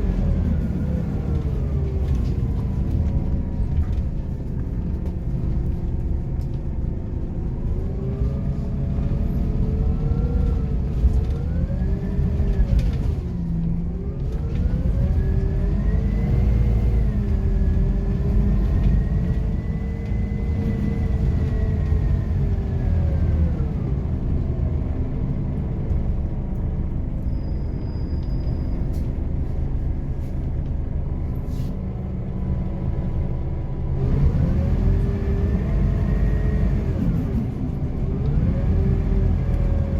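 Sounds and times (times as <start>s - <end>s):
bus diesel engine pulling away: 0.0s - 39.9s.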